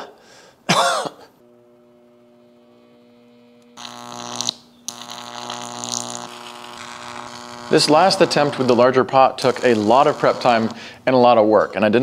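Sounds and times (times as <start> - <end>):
faint steady hum: 0.0 - 12.0
electric arc buzzing: 1.4 - 12.0.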